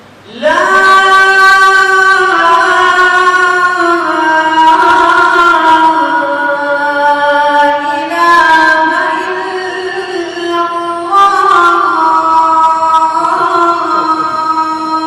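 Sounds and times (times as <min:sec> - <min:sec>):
boy reciting melodically: 0:00.2 - 0:15.0.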